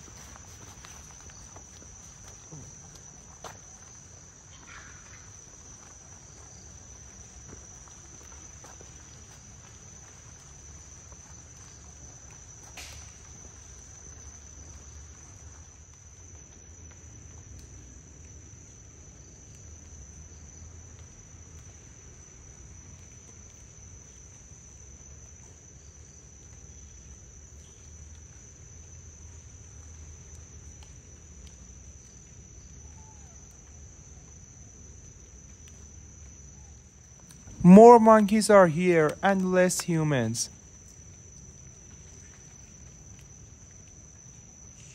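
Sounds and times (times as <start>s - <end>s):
forest insects droning: 0.0s - 44.9s.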